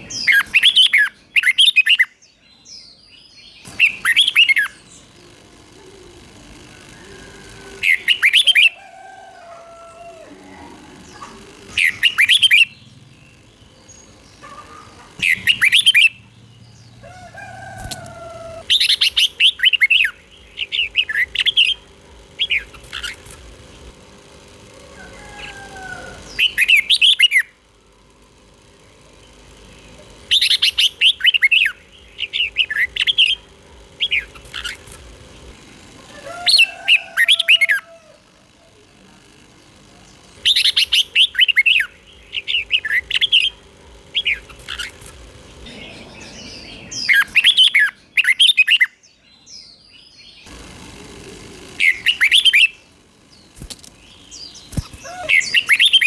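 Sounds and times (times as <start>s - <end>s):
bird singing warbled phrases: 0.0s - 38.3s, 39.4s - 56.0s.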